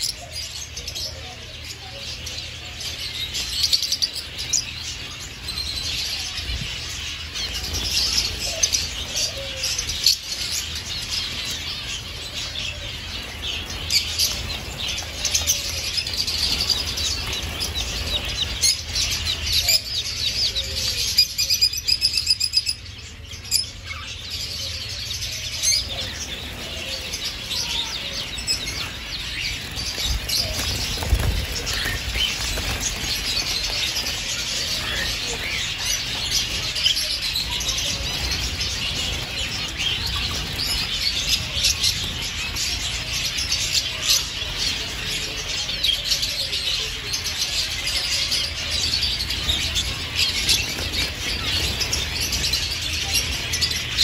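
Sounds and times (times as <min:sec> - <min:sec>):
caged birds chirping: 0:00.0 - 0:54.0.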